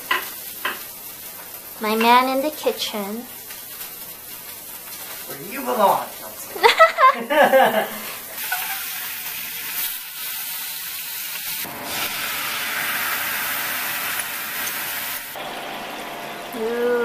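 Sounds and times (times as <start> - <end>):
sauce sizzling in a frying pan: 0.0 - 17.0.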